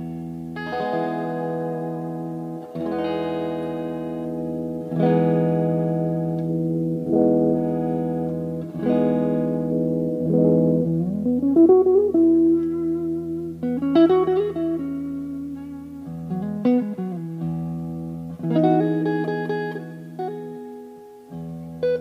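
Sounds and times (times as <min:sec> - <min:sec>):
electric guitar chords and notes: 0:00.0 - 0:22.0.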